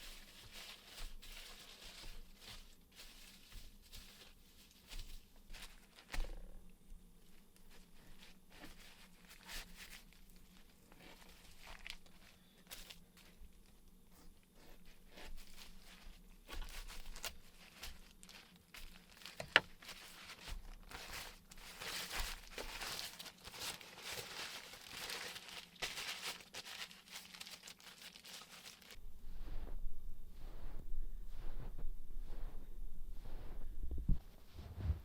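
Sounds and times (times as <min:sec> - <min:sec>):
rustling and crinkling: 0:00.0 - 0:35.0.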